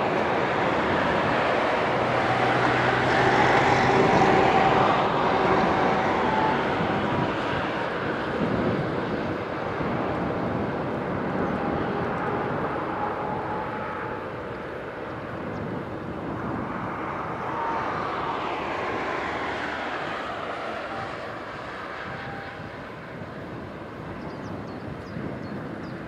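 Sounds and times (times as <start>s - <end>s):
jet engine rushing: 0.0s - 25.8s.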